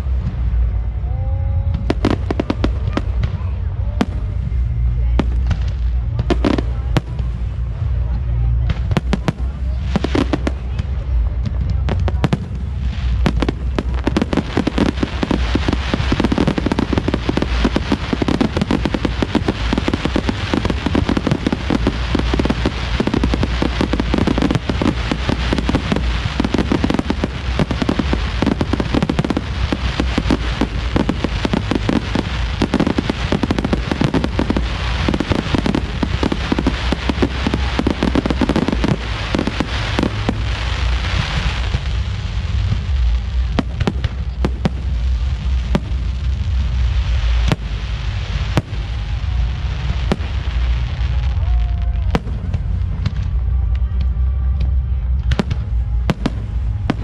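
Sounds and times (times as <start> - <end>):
fireworks bursting and crackling: 0.0 - 57.0
low rumble: 0.0 - 57.0.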